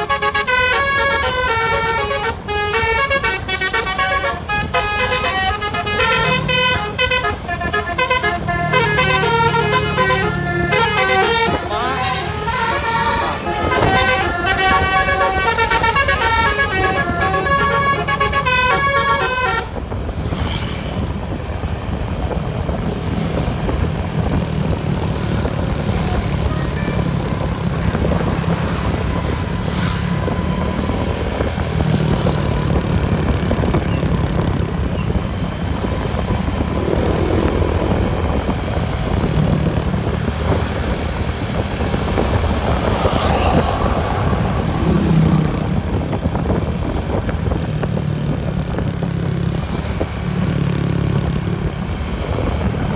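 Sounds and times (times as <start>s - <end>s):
multi-tone bus horn tune: 0.0s - 21.2s, 25.2s - 47.2s
loud rumble of vehicle engines: 0.0s - 52.9s.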